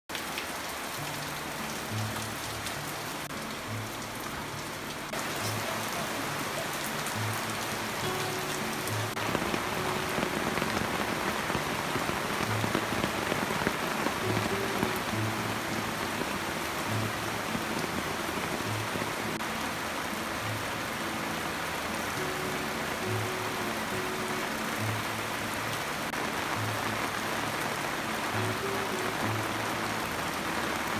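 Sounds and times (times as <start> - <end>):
rain on leaves and wet ground: 0.1 - 30.9
soft slow low melody: 0.1 - 30.9.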